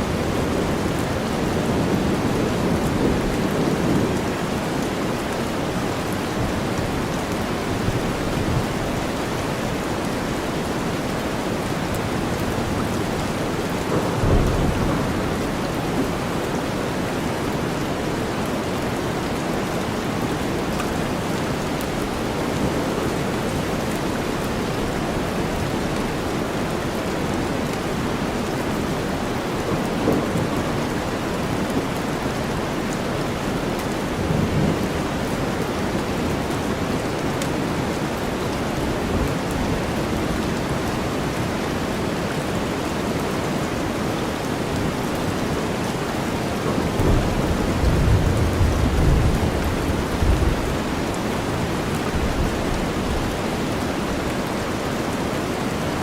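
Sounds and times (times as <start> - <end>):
rainstorm: 0.0 - 56.0.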